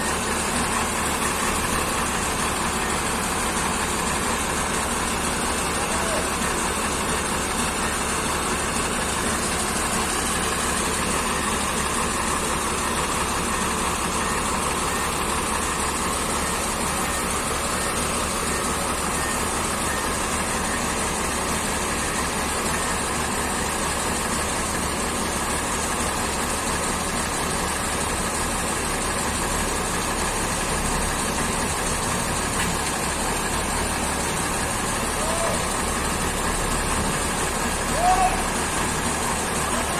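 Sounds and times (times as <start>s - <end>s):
forklift engine idling: 0.0s - 39.9s.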